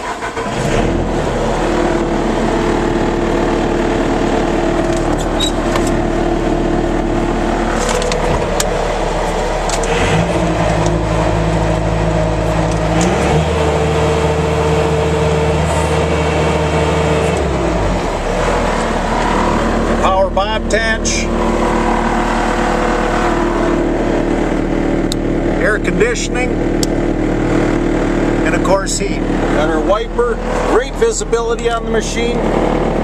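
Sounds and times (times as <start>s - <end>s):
diesel engine idling and revving: 0.0s - 33.0s.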